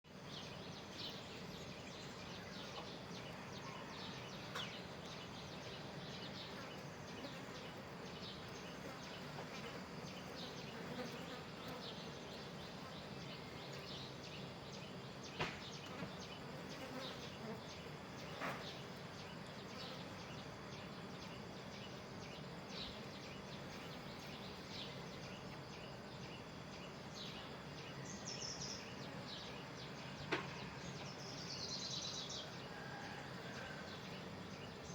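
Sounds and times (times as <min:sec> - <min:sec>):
buzzing insects: 0:00.1 - 0:34.9.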